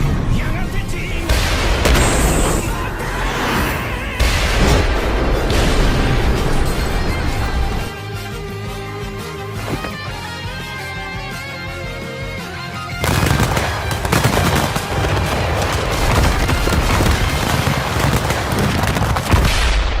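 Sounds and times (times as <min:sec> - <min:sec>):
music: 0:00.0 - 0:18.9.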